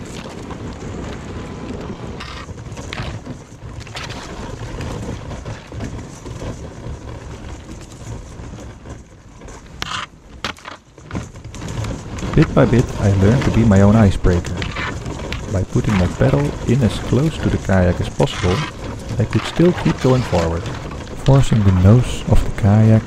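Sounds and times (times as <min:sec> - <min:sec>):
ice plates cracking: 0:00.0 - 0:08.8, 0:09.6 - 0:23.0
ice crackling and scraping on hull: 0:00.0 - 0:23.0.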